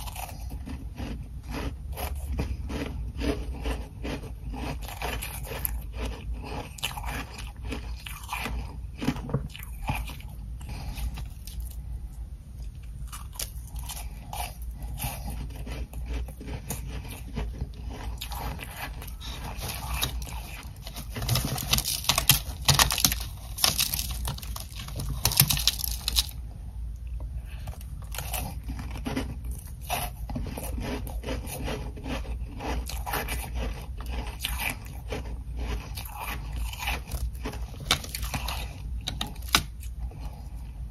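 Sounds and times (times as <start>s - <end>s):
ice crunching when chewed: 0.0s - 11.9s, 12.6s - 26.4s, 27.5s - 40.8s.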